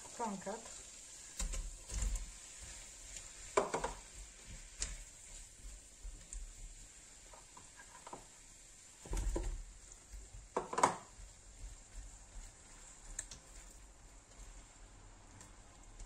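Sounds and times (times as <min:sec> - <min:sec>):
kitchen knocking and rustling: 0:01.3 - 0:14.6.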